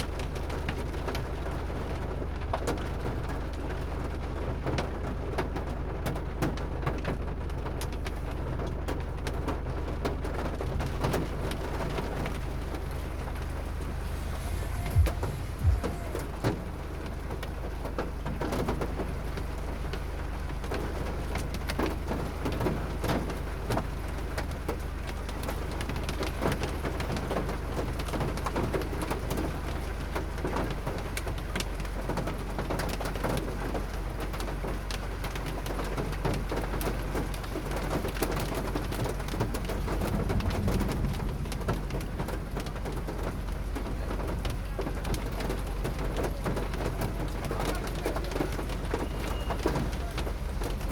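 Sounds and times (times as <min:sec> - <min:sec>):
hail and rain pelting: 0:00.0 - 0:50.9.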